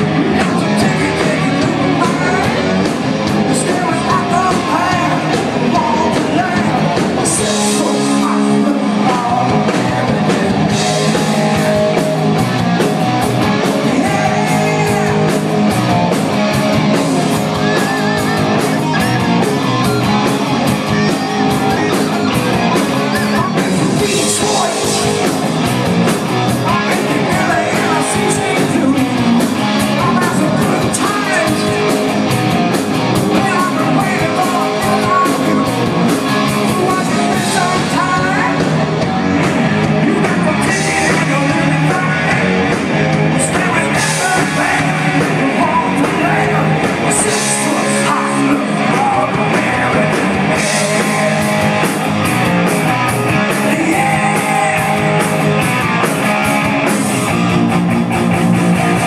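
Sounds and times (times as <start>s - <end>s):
lead singer singing: 0.0s - 57.5s
drums and cymbals: 0.0s - 59.0s
electric guitars: 0.0s - 59.0s
live rock band playing: 0.0s - 59.0s.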